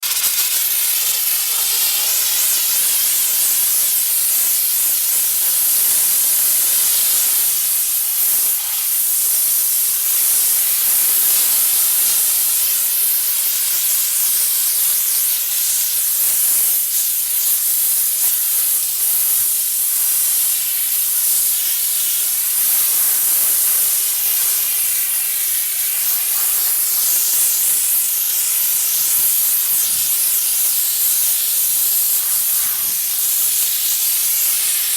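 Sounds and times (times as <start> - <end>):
steam jetting from spray gun: 0.0 - 34.9.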